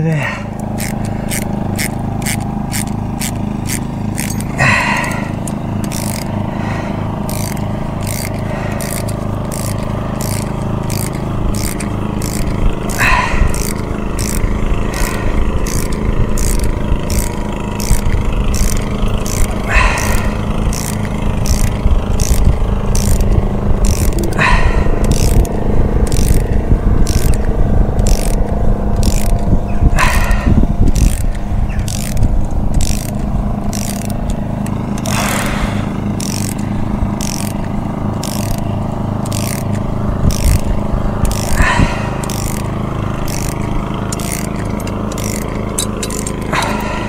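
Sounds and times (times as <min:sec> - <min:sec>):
machine running with clicking: 0:00.5 - 0:47.0.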